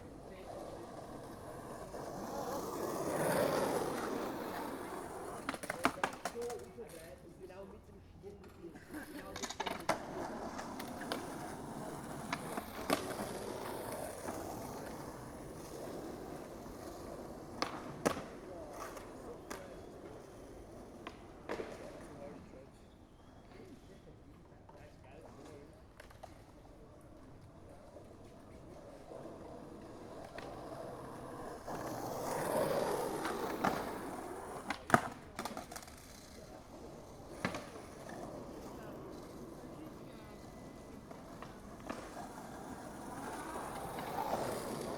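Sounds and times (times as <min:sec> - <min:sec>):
skateboard clacks: 0:00.0 - 0:07.2, 0:08.4 - 0:22.4, 0:24.6 - 0:44.9
skateboard wheels rolling: 0:00.0 - 0:44.9.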